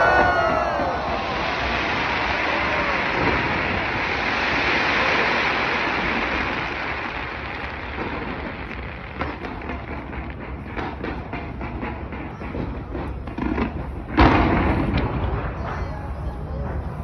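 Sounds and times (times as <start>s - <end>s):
fireworks crackling: 0.0s - 17.0s
fireworks pops and bangs: 0.0s - 17.0s.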